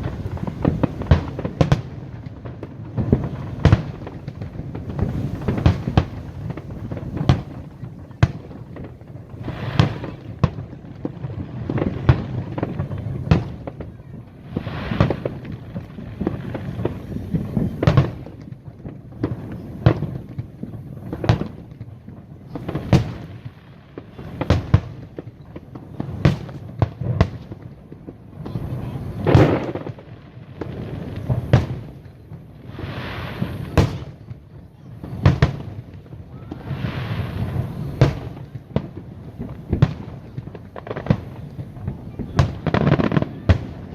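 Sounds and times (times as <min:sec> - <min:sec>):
fireworks bangs: 0:00.0 - 0:43.9
fireworks crackling: 0:00.0 - 0:43.9.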